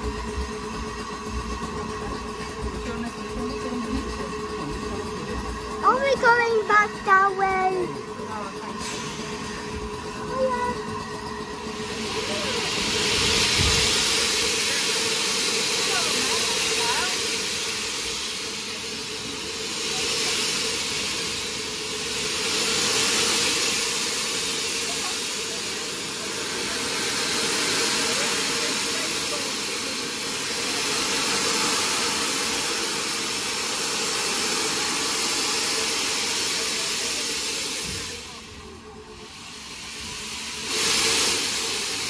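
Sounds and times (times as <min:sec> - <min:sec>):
steam hissing: 0:00.0 - 0:42.0.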